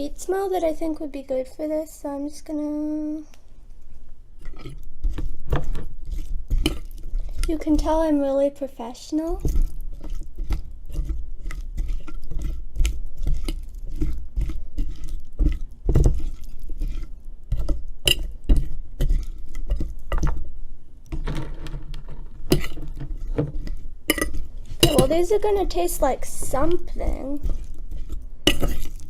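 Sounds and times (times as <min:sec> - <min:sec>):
potatoes tossed in a bowl: 0:04.4 - 0:20.5, 0:21.2 - 0:29.0.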